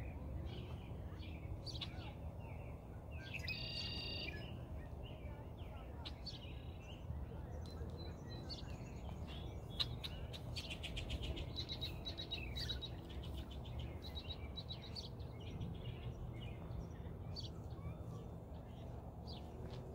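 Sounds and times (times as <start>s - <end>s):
small birds chirping and twittering: 0.0s - 19.9s.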